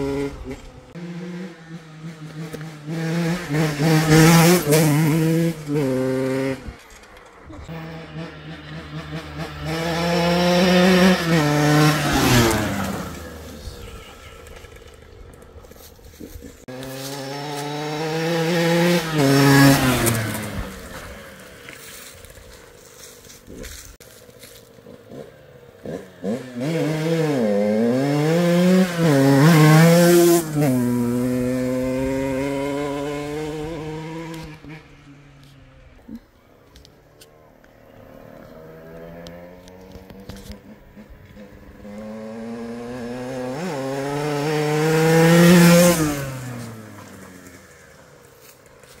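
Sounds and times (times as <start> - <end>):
dirt bike engine revving: 0.0 - 36.4, 37.0 - 49.0.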